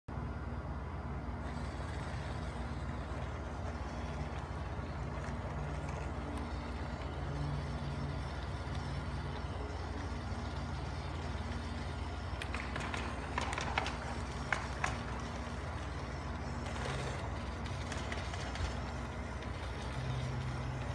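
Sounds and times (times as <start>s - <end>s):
model tank motor hum: 0.2s - 20.9s
sharp clicks and rattles: 1.4s - 20.9s.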